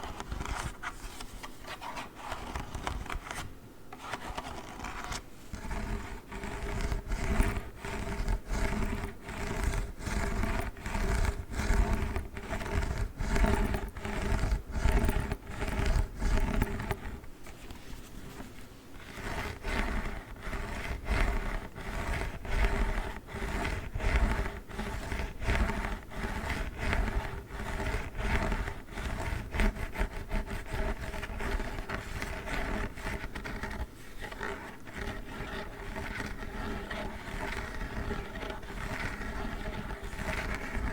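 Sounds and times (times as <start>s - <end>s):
gel cold pack being scratched: 4.0s - 17.8s, 19.0s - 40.9s.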